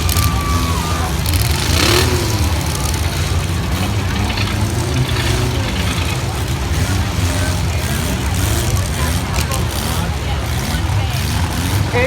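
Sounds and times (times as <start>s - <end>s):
engine revving: 0.0s - 12.0s
truck engines rumbling: 0.0s - 12.0s.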